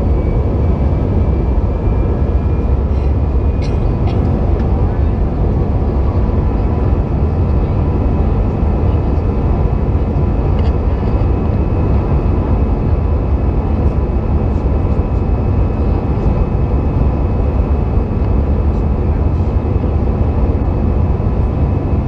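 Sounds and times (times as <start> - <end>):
airplane cabin engine rumble: 0.0 - 22.0
faint steady whining tones: 0.0 - 22.0.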